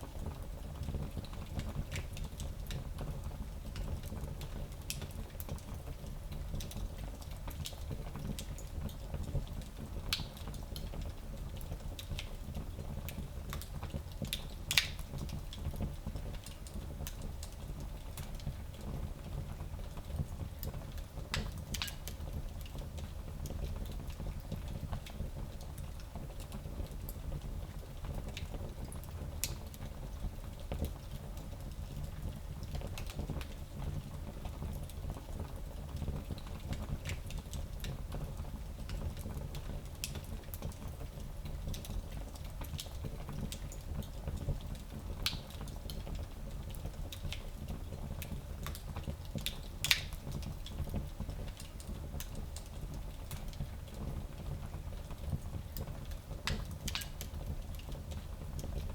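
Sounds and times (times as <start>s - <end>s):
fire crackling in fireplace: 0.0s - 58.9s.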